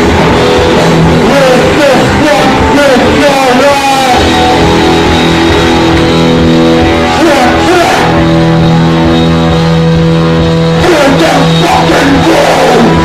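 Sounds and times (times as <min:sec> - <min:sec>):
electric guitars sustained chords: 0:00.0 - 0:13.0
heavy rock band playing: 0:00.0 - 0:13.0.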